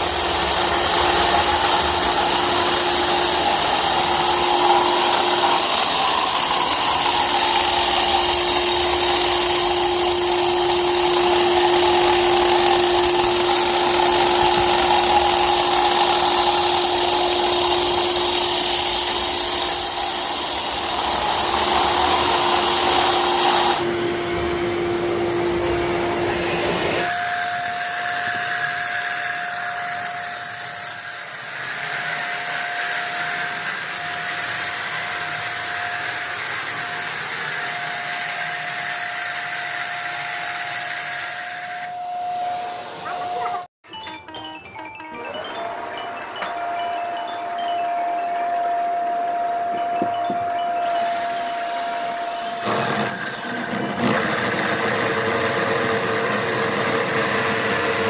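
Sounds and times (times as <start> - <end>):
power tool motor whining: 0.0 - 43.7, 45.2 - 58.0.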